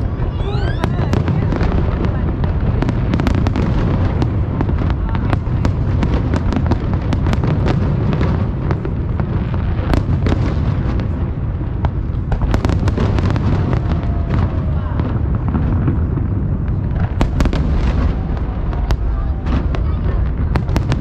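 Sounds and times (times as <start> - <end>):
crackling firework pops: 0.0 - 21.0.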